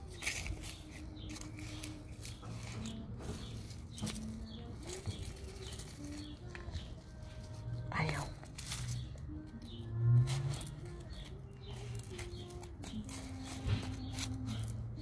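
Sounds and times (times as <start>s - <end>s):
carrot foliage rustling: 0.0s - 15.0s.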